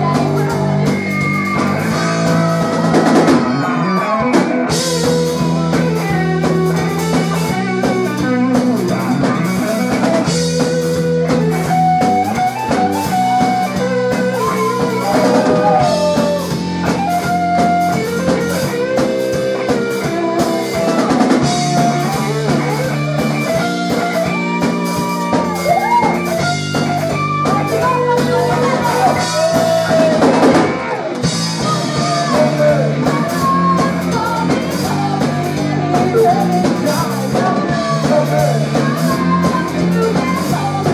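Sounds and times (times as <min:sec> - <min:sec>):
electric guitar lead line bending: 0:00.0 - 0:40.9
live rock band playing: 0:00.0 - 0:40.9.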